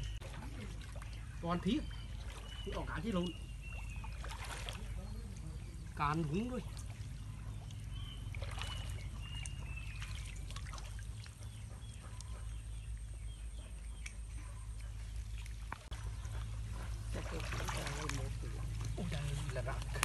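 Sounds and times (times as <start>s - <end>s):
small splashes and drips: 0.0s - 20.0s
water splashing and trickling: 0.0s - 20.0s.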